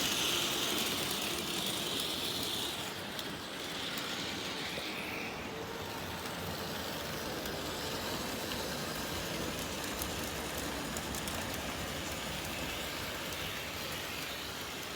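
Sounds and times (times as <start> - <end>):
model train rolling on track: 0.0 - 14.9.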